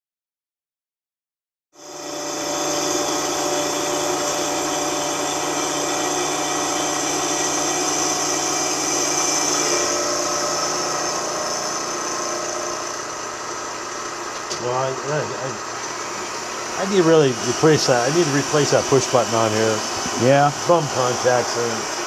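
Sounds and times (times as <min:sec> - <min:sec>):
milling machine cutting metal: 0:01.8 - 0:22.0.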